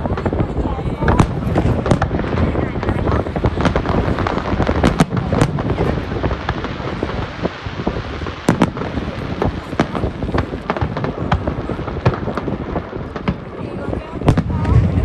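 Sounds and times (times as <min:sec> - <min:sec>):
fireworks bangs and crackles: 0:00.0 - 0:15.0
steady low rumble: 0:00.0 - 0:15.0.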